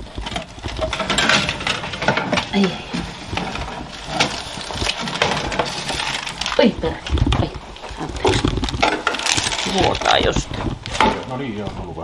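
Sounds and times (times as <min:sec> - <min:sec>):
metal baking sheet scraping: 0:00.0 - 0:11.0.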